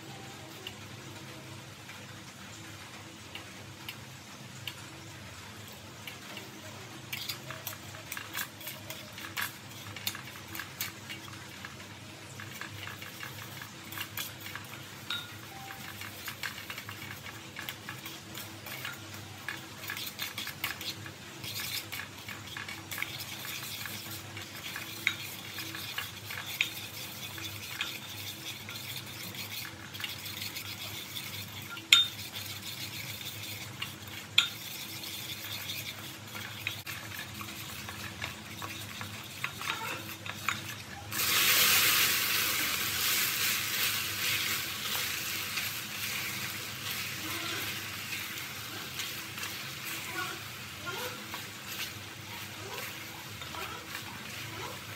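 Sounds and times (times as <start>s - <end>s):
caramel sizzling: 0.0s - 54.9s
loud sizzling hiss: 0.0s - 54.9s.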